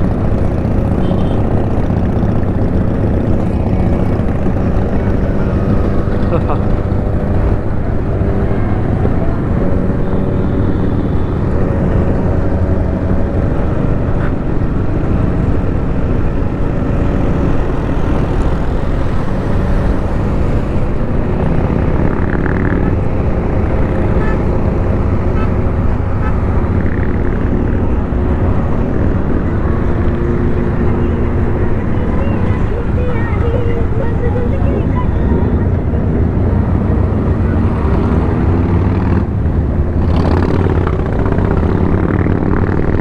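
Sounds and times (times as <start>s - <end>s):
motorcycle engines running: 0.0s - 43.0s.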